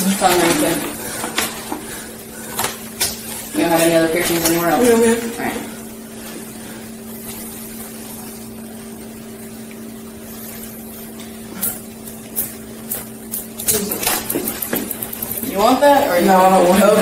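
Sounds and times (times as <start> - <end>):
two-tone electrical hum: 0.0 - 17.0.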